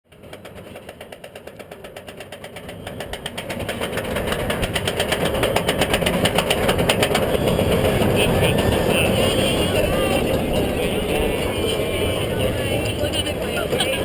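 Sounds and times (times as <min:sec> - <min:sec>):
roller coaster chain lift clacking: 0:00.1 - 0:14.0.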